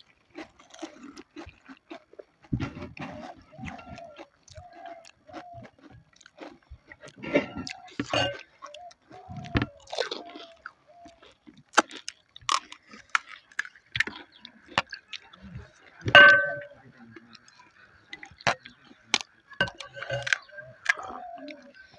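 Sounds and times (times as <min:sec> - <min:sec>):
crisp shells crunched and chewed: 0:00.0 - 0:16.1, 0:17.2 - 0:21.8.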